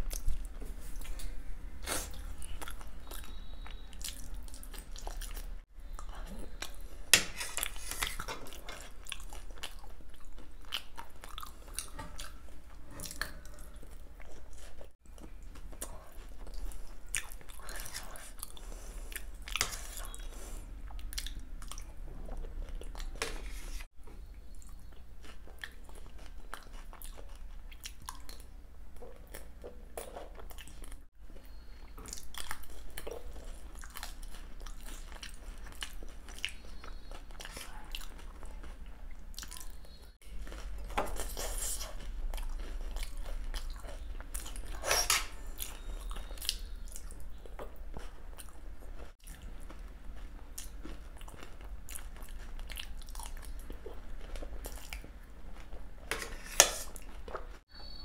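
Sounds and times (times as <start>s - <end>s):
person chewing crunchy food: 0.0s - 23.5s, 24.6s - 57.7s.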